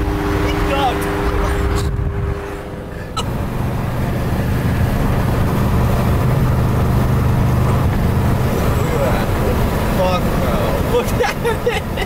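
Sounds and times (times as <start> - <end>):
low engine drone: 0.0 - 12.0
road and wind noise: 0.0 - 12.0.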